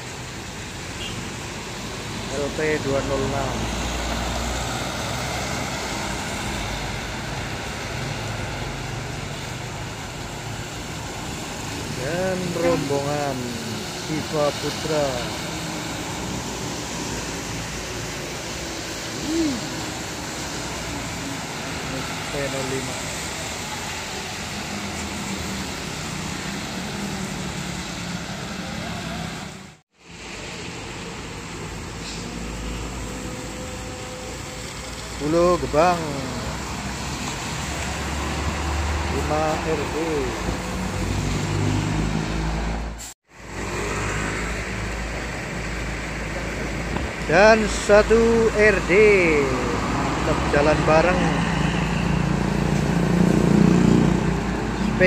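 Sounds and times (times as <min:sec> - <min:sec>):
rain hiss: 0:00.0 - 0:55.0
traffic: 0:00.0 - 0:55.0
tyres hissing on wet road: 0:00.0 - 0:55.0
bus diesel engine droning: 0:02.3 - 0:55.0.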